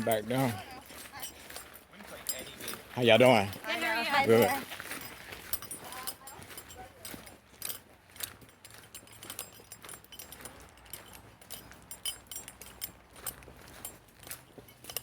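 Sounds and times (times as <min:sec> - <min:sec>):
footsteps: 0:00.0 - 0:15.0
metal gear jangling: 0:00.0 - 0:15.0.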